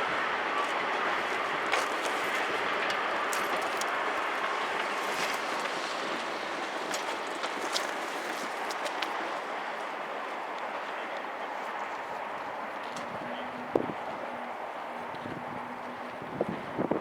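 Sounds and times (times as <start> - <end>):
passenger train passing: 0.0 - 17.0.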